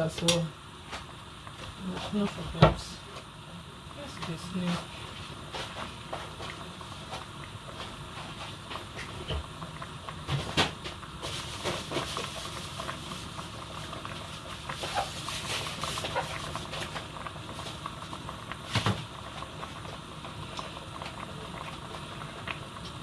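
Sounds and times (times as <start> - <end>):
soup bubbling: 0.0 - 23.0.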